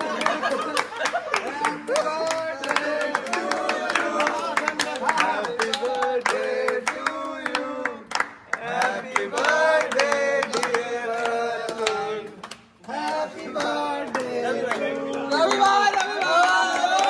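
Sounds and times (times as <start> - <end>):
hands clapping along: 0.0 - 17.0
young men singing together: 1.9 - 17.0.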